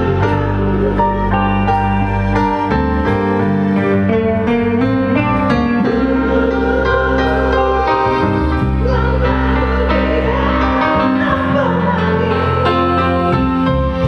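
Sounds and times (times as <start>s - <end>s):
person singing: 0.0s - 2.6s, 4.2s - 14.0s
held chords: 0.0s - 14.0s
steady bass: 0.0s - 14.0s.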